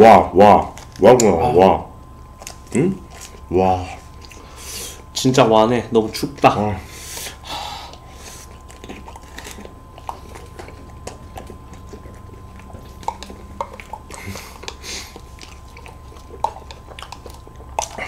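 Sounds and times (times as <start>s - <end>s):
soft chewing and mouth sounds: 0.5s - 5.3s, 6.0s - 18.0s.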